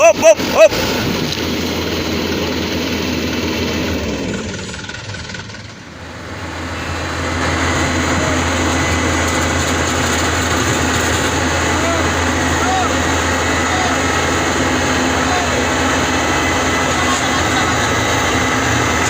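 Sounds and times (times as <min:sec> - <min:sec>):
heavy engine running: 0:00.0 - 0:19.0.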